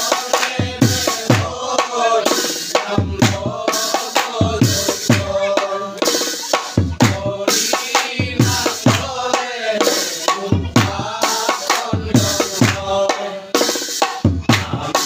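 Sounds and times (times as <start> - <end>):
men singing a chant: 0.0 - 15.0.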